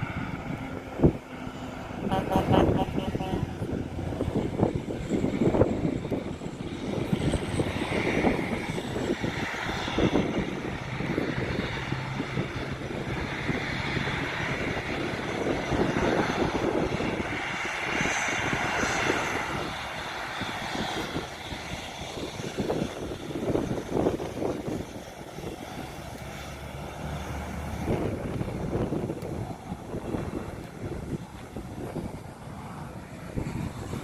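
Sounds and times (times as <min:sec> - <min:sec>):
airplane engines droning: 0:00.0 - 0:34.0.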